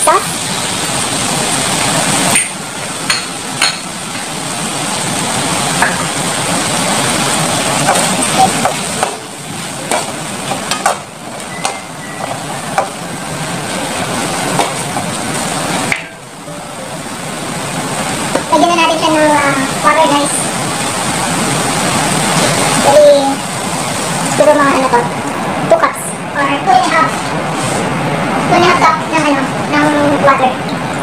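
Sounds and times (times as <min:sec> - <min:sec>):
food sizzling in a wok: 0:00.0 - 0:30.5.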